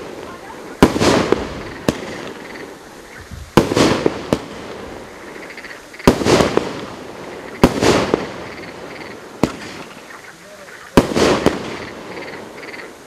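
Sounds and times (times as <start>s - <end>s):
firework bangs: 0.0s - 13.0s
hissing crackle of firework stars: 0.0s - 13.0s.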